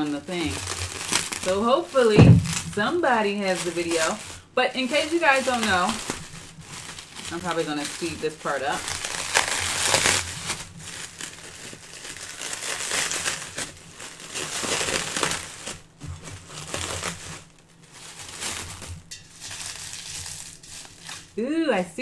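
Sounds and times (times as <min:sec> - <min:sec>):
plastic wrap crinkling: 0:00.0 - 0:21.5.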